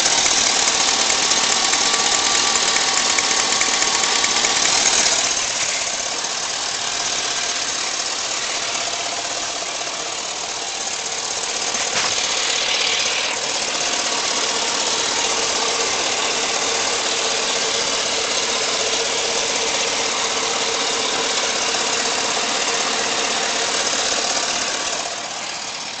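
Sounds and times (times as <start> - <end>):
car engine running: 0.0 - 26.0
engine knock: 0.0 - 26.0.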